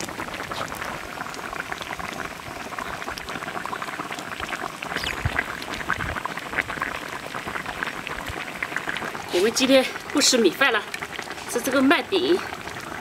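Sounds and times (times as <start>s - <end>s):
stew boiling in a wok: 0.0s - 13.0s.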